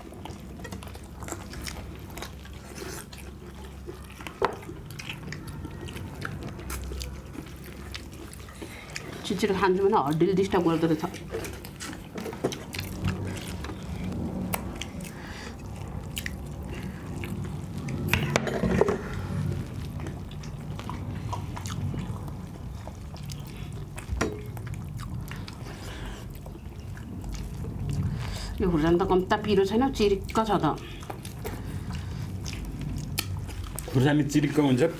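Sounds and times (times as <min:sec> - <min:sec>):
wet chewing and lip smacking: 0:00.0 - 0:34.9.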